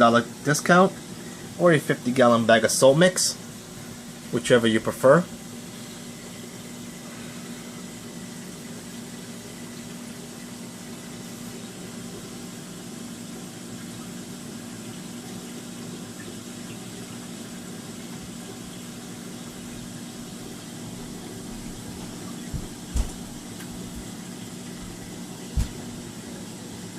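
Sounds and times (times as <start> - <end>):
aquarium pump humming: 0.0 - 26.9
circulating water wash: 0.0 - 26.9.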